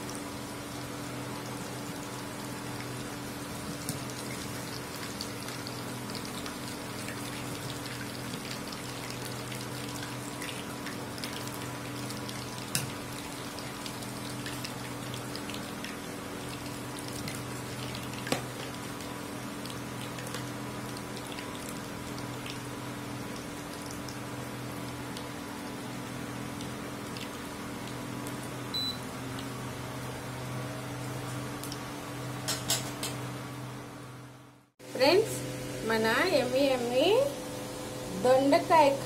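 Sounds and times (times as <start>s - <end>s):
food deep-frying in hot oil: 0.0s - 33.5s.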